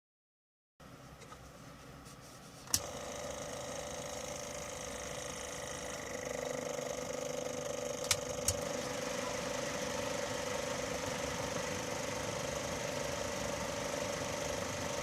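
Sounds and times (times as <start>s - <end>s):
small electric motor humming: 2.8s - 15.0s.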